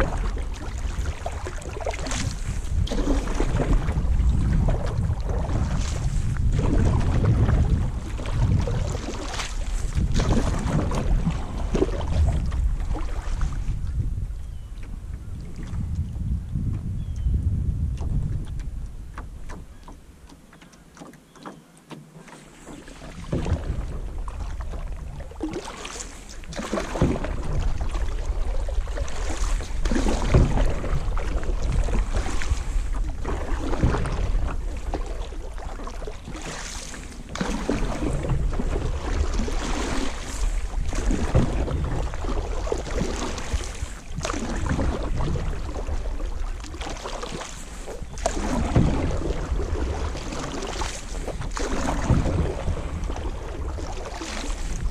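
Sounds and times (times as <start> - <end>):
wind rumble on microphone: 0.0 - 19.9, 22.9 - 54.9
paddle splashing water: 0.0 - 54.9.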